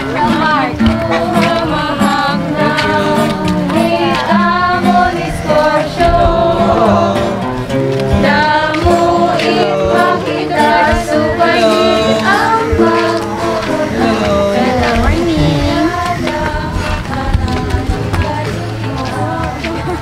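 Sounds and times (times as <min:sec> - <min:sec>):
song with singing voices: 0:00.0 - 0:20.0.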